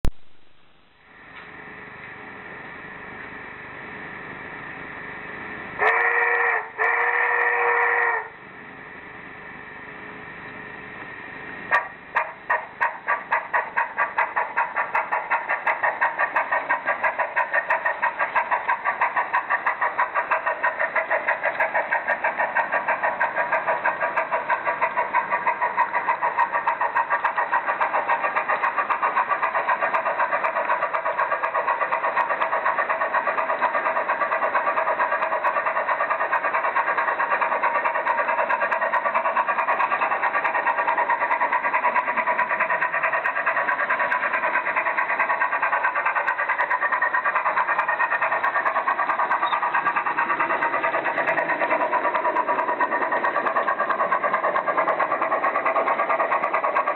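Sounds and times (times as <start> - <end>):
model steam locomotive chuffing: 0.7 - 56.9.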